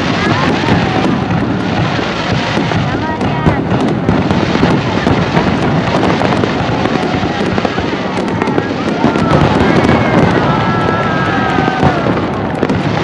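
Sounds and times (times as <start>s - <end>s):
firework crackle: 0.0s - 13.0s
firework shells bursting: 0.0s - 13.0s.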